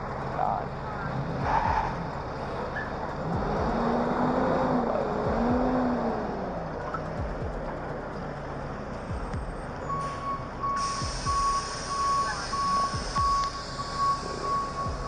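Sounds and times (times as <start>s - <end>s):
cars driving by: 0.0s - 15.0s.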